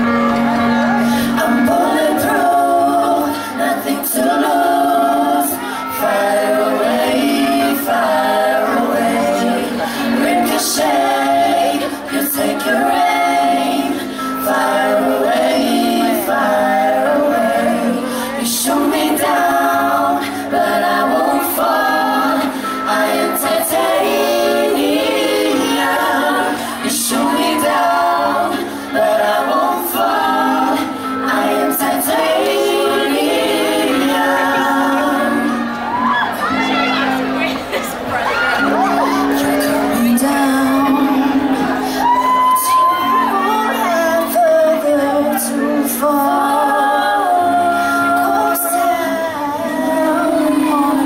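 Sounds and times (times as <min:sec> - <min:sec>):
women singing in harmony: 0:00.0 - 0:37.5, 0:38.3 - 0:51.0.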